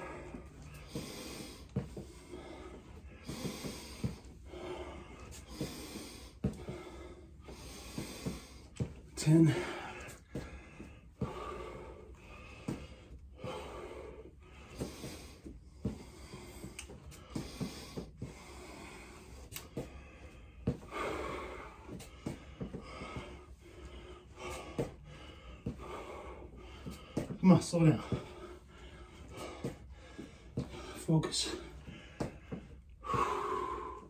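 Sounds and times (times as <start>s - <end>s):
man breathing hard: 0.0s - 34.0s.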